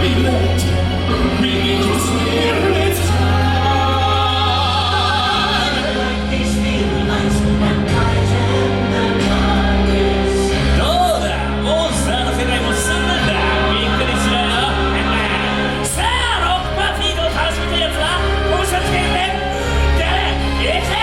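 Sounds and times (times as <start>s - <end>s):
steady bass line: 0.0s - 21.0s
voices singing long notes: 0.0s - 21.0s.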